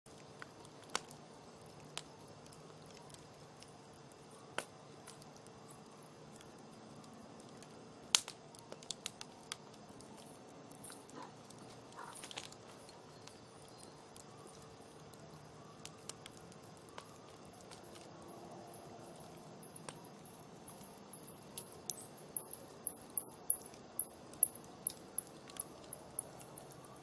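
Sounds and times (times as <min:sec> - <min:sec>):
campfire crackling: 0:00.1 - 0:27.0.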